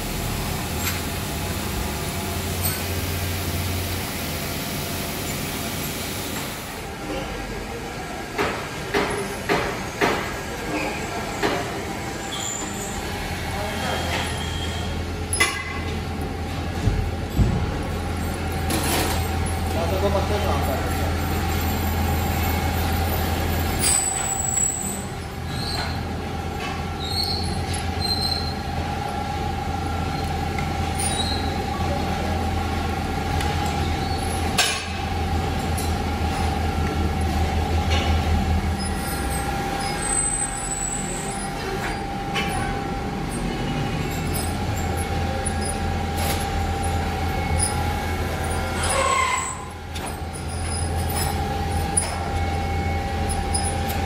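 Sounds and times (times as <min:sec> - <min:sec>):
workshop machinery humming: 0:00.0 - 0:54.0.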